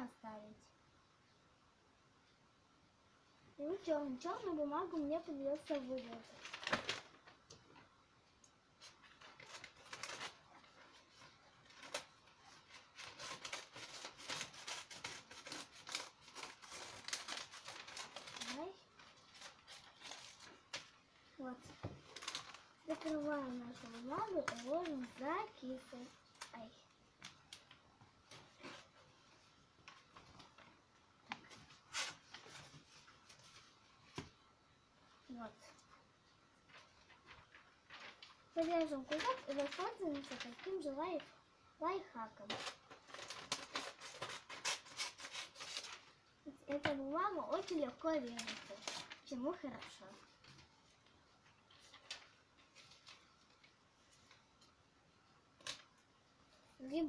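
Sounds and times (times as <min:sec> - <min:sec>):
paper sheets rustling: 0:04.2 - 0:07.8, 0:08.8 - 0:34.4, 0:36.6 - 0:41.3, 0:42.2 - 0:54.7.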